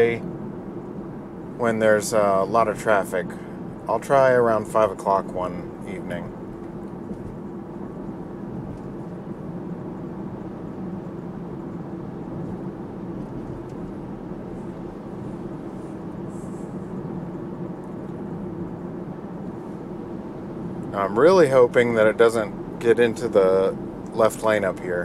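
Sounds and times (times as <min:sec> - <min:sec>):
low even hum: 0:00.0 - 0:25.0
tyre and road noise: 0:00.0 - 0:25.0.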